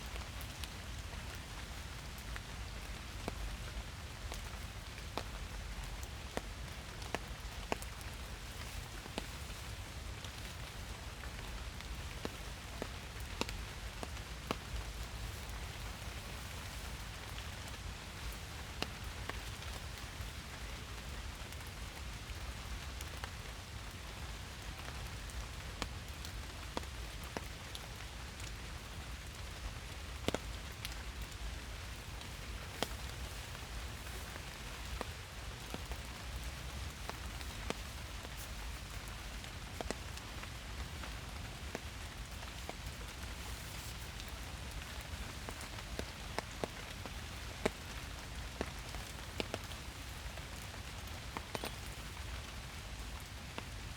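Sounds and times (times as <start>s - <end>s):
steady rain: 0.0s - 53.9s
raindrops striking: 0.1s - 25.0s, 25.6s - 53.9s.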